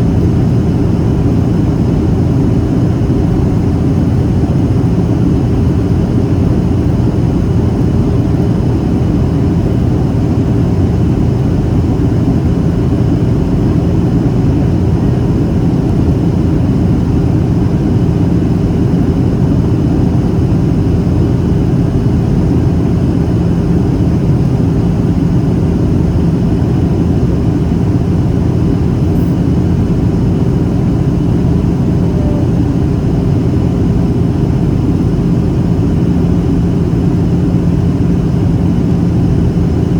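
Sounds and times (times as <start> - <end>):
faint steady hum: 0.0 - 39.9
jet engine drone: 0.0 - 39.9.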